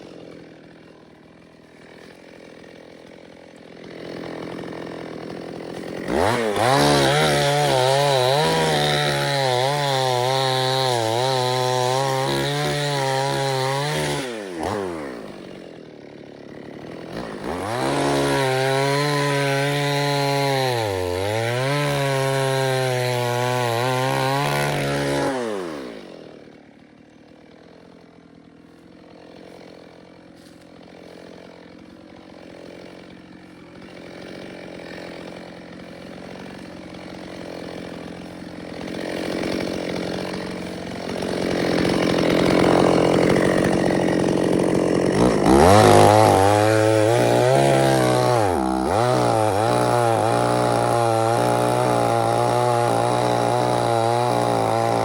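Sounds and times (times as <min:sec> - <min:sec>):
chainsaw cutting: 0:00.0 - 0:55.0
chainsaw idling and revving: 0:00.0 - 0:55.0.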